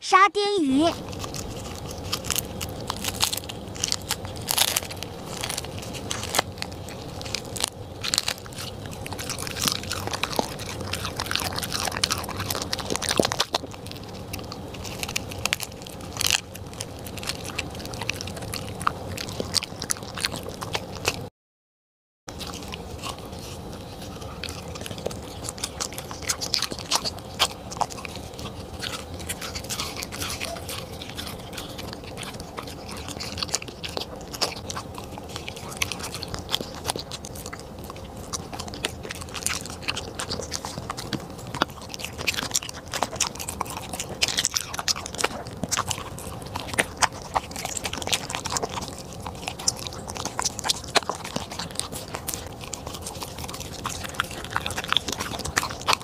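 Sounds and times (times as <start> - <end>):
dog chewing and crunching food: 0.1 - 21.3, 22.3 - 56.0.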